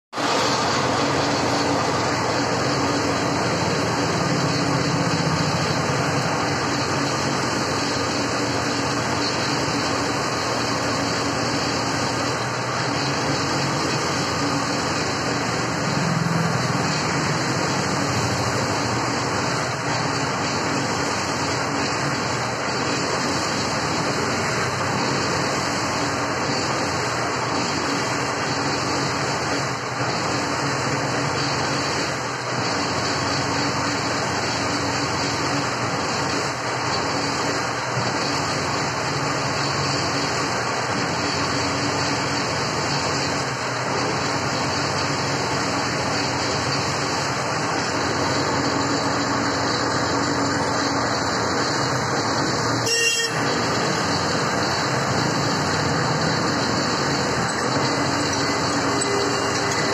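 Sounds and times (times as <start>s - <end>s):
winch engine droning: 0.2s - 59.9s.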